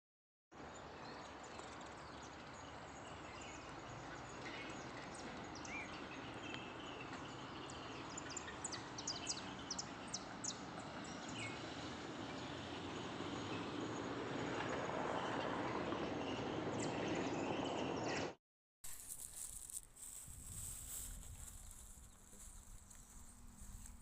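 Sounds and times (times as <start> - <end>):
birds chirping: 1.7 - 18.4, 21.0 - 24.0.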